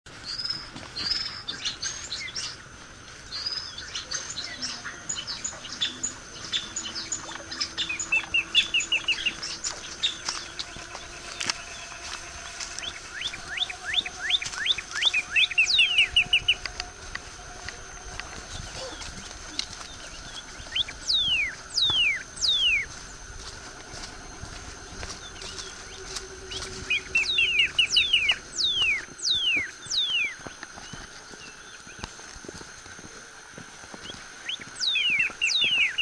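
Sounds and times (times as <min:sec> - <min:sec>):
songbirds chirping and singing: 0:00.1 - 0:32.8, 0:33.5 - 0:36.0.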